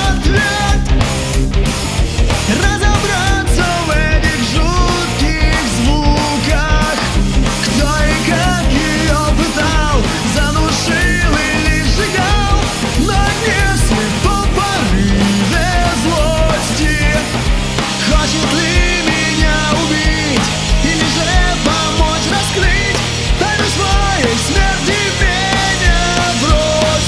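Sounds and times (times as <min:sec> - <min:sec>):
bass: 0:00.0 - 0:27.0
bending lead guitar melody: 0:00.0 - 0:27.0
steady drum beat: 0:00.0 - 0:27.0.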